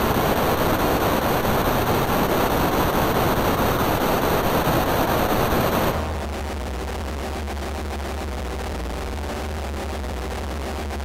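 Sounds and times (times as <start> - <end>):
loud steady rushing noise: 0.0 - 11.0.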